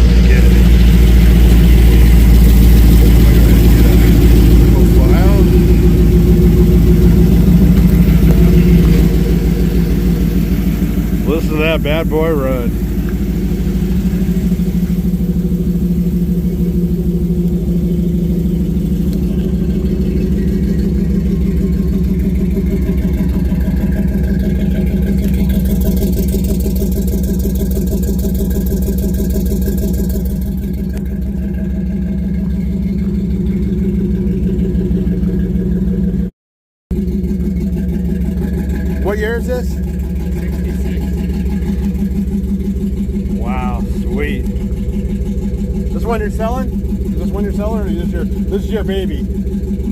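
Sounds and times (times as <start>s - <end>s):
pickup engine idling: 0.0s - 36.3s, 36.9s - 49.9s.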